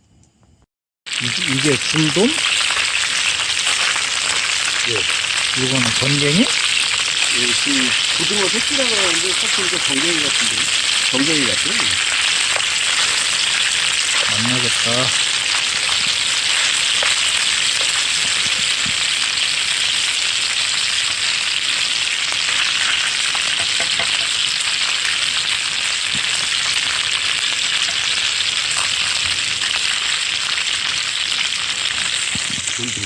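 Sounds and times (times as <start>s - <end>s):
fish sizzling in hot oil: 1.1s - 33.0s
oil popping and crackling: 1.1s - 33.0s.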